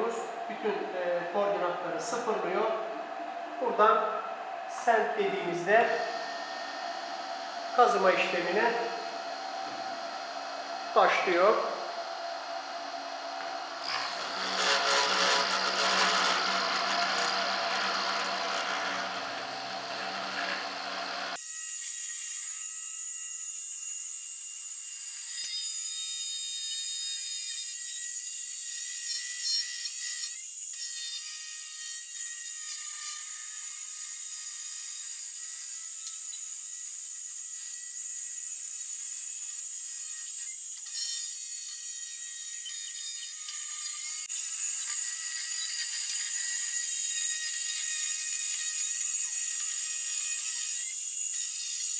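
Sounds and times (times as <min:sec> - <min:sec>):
router spindle cutting plastic: 0:04.9 - 0:22.7, 0:23.4 - 0:51.9.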